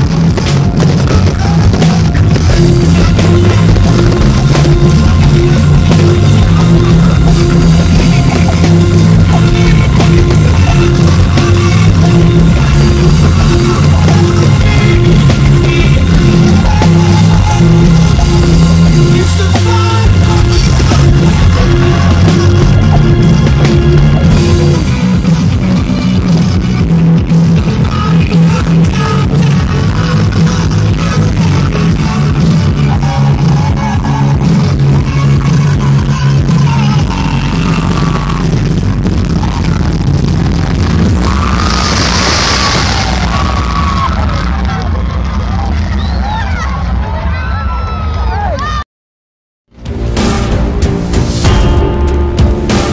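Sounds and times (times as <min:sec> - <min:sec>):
steady bass line: 0:00.0 - 0:47.8, 0:49.7 - 0:52.9
loud rock music: 0:00.0 - 0:48.8, 0:49.7 - 0:52.9.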